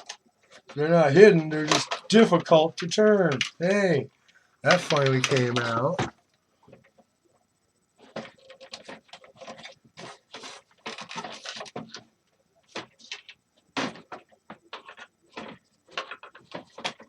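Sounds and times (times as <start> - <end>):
heater parts clicking and rattling: 0.0 - 3.8, 4.6 - 7.0, 8.0 - 17.0.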